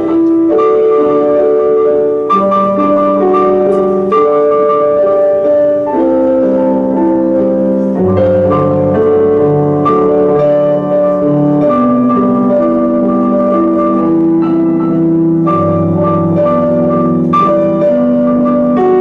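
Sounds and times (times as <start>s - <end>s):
piano chords and melody: 0.0s - 19.0s.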